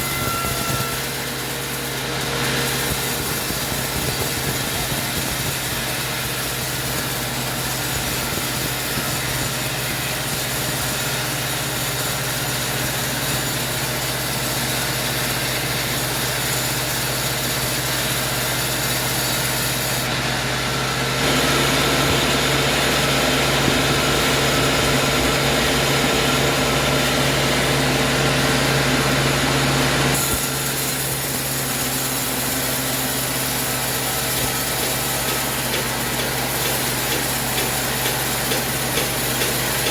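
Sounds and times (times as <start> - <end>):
saw cutting through wood: 0.0 - 39.9
sawmill machinery humming: 0.0 - 39.9.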